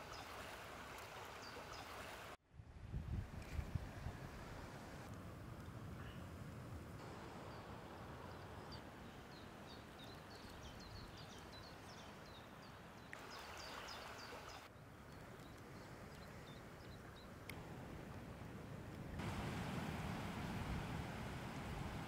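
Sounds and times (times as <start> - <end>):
faint low background noise: 1.0 - 22.0.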